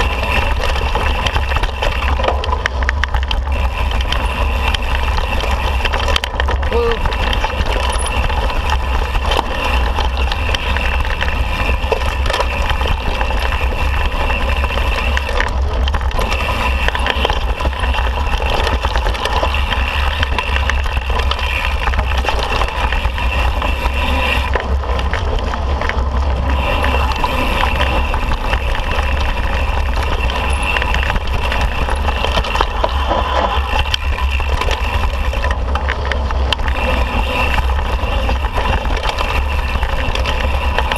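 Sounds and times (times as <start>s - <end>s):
bike rattling: 0.0s - 40.9s
wind rumble on microphone: 0.0s - 40.9s.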